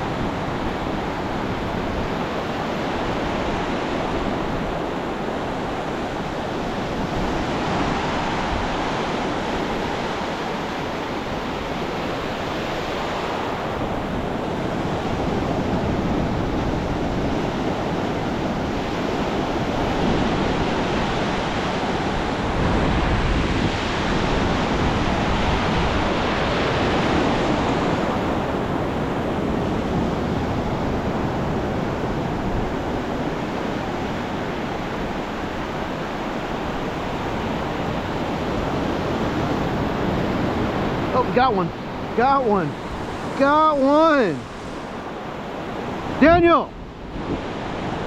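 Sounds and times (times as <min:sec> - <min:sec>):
ocean surf breaking: 0:00.0 - 0:48.0
wind on microphone: 0:00.0 - 0:48.0.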